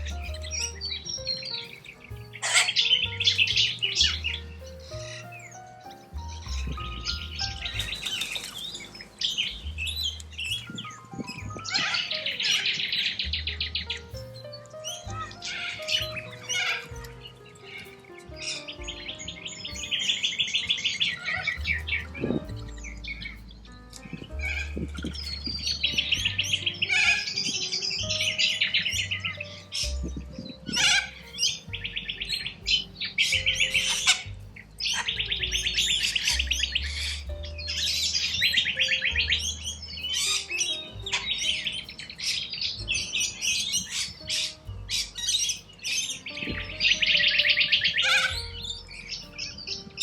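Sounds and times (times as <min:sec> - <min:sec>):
background music with bass: 0:00.0 - 0:50.0
birds screeching: 0:00.0 - 0:50.0.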